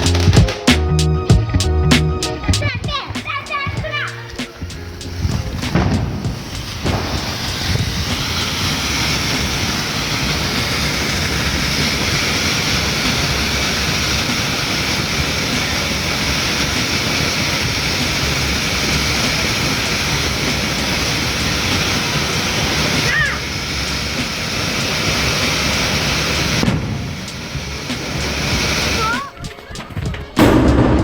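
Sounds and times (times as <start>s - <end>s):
firework fountain hissing: 0.0s - 31.0s.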